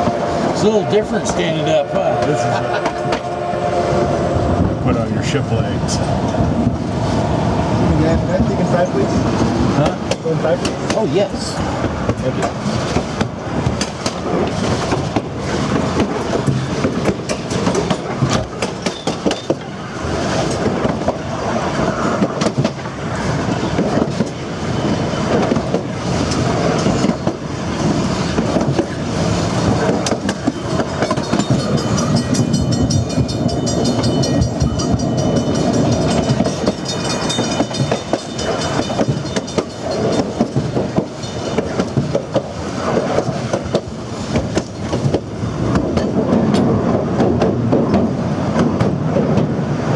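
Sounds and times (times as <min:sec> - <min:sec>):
train cars rumbling on track: 0:00.0 - 0:49.9
wheels clattering over rail joints: 0:07.9 - 0:49.9.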